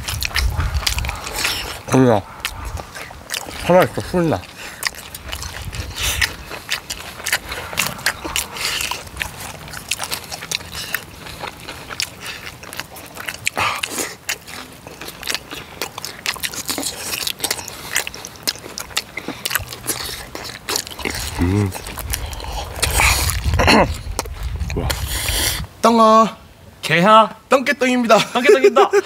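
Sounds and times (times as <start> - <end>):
chewing with wet mouth sounds: 0.0 - 25.8.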